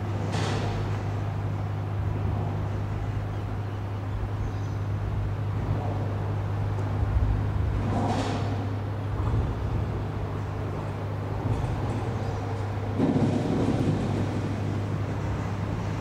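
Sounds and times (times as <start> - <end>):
ship engine drone: 0.0 - 16.0.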